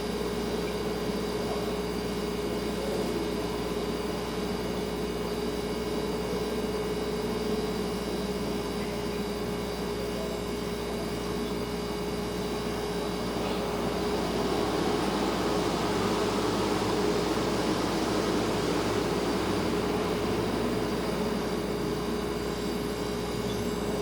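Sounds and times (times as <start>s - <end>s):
refrigerator humming: 0.0s - 24.0s.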